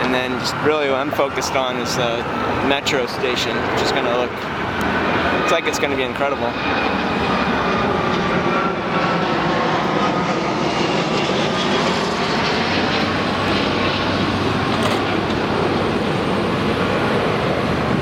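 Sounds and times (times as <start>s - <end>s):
vehicle roar: 0.0s - 18.0s.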